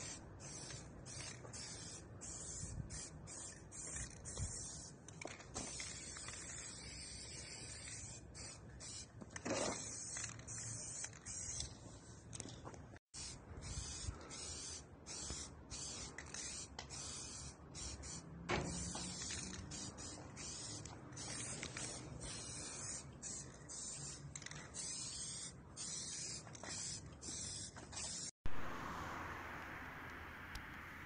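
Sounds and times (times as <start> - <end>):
spray can hissing in bursts: 0.0 - 4.9, 5.5 - 12.1, 13.2 - 28.3.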